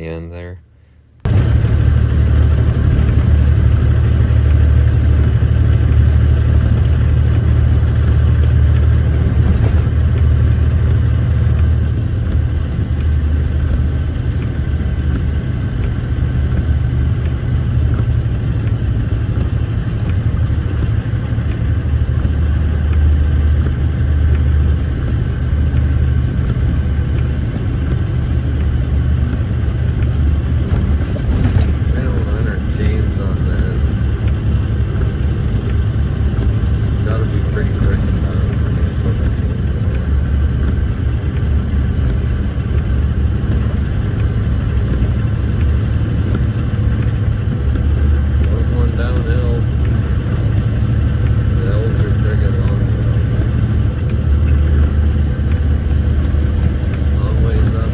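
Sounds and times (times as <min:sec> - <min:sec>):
cab and road noise: 0:00.0 - 0:57.9
truck diesel engine drone: 0:00.0 - 0:57.9.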